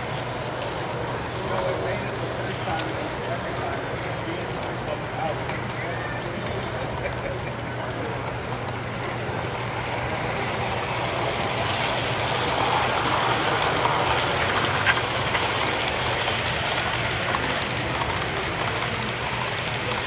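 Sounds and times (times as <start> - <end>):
model train wheels whirring on rails: 0.0 - 20.0.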